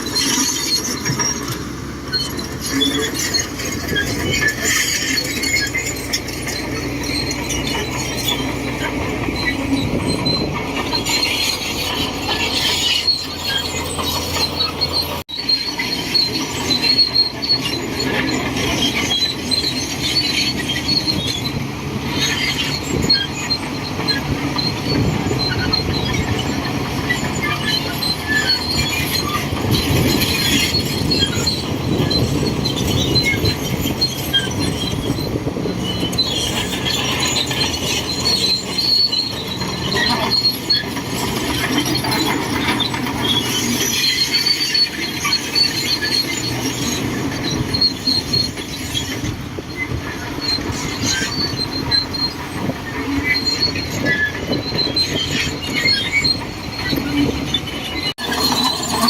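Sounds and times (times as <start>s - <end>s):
bulldozer diesel engine running: 0.0s - 59.0s
steel tracks squealing and clanking: 0.0s - 59.0s.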